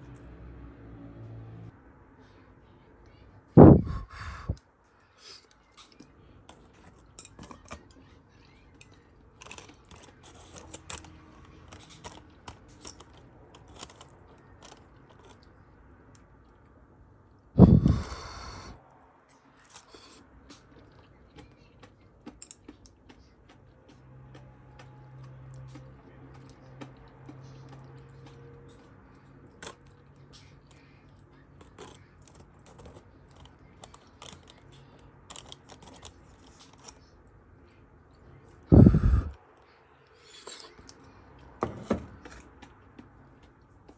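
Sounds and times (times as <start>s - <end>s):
people chewing and eating: 3.8s - 41.6s, 42.2s - 43.9s.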